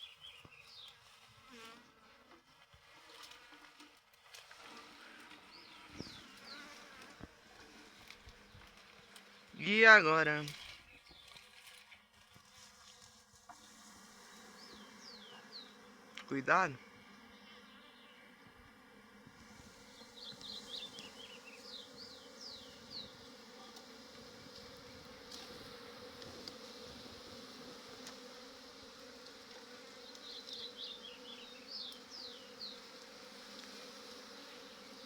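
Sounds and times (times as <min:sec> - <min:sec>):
bees buzzing: 0:02.8 - 0:10.9, 0:12.6 - 0:35.0.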